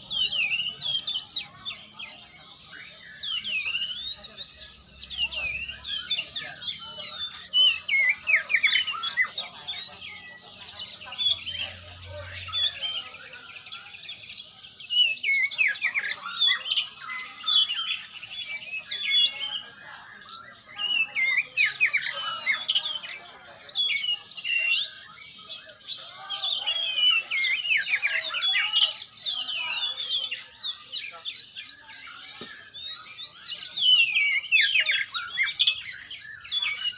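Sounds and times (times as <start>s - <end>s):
bird singing whistles and chirps: 0.0s - 36.9s.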